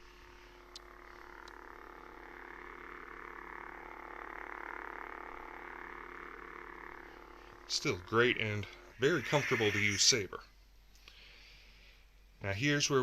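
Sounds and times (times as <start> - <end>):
electronic lightsaber hum: 0.0 - 10.5.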